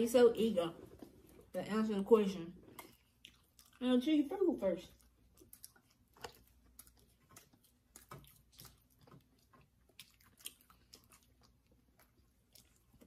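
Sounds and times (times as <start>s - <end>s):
faint chewing: 0.7s - 1.7s, 2.5s - 13.0s.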